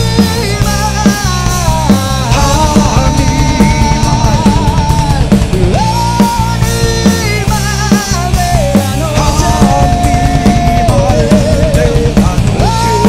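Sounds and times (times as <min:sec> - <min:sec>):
bass: 0:00.0 - 0:13.0
drums: 0:00.0 - 0:13.0
lead melody with bending notes: 0:00.0 - 0:13.0.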